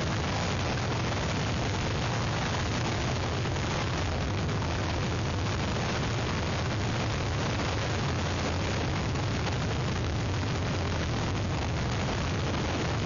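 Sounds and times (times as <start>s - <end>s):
heavy low rumble: 0.0s - 13.0s
strong wind on microphone: 0.0s - 13.0s.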